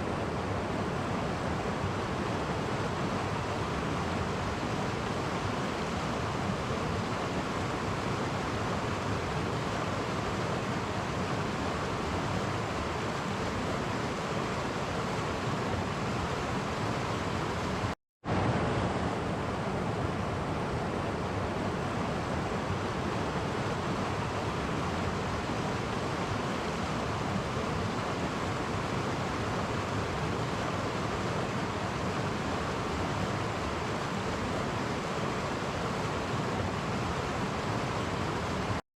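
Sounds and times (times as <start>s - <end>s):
stream rushing over cascades: 0.0s - 38.8s.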